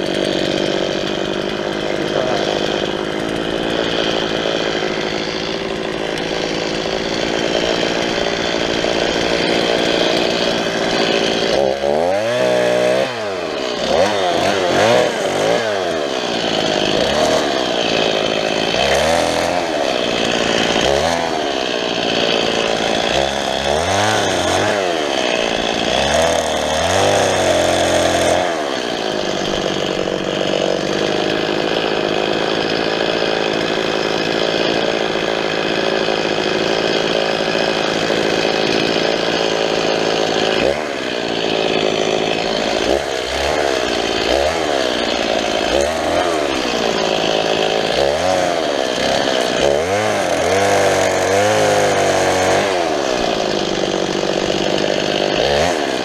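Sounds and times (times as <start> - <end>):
chainsaw cutting and revving: 0.0 - 56.0.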